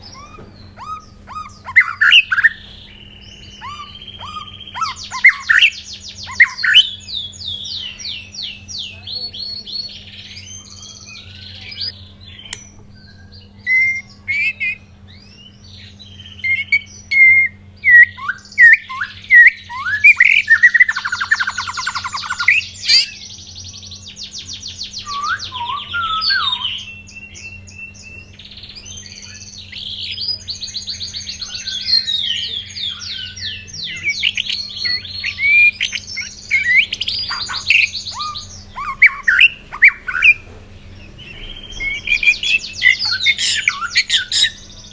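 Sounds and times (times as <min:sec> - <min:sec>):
bird singing whistled notes and trills: 0:00.0 - 0:44.9
steady low hum: 0:00.0 - 0:44.9.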